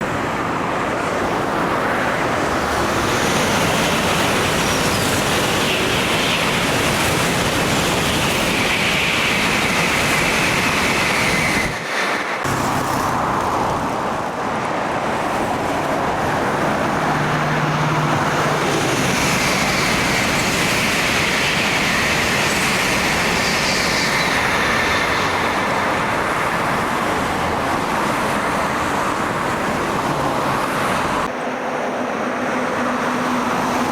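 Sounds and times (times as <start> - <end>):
highway traffic passing: 0.0 - 33.9.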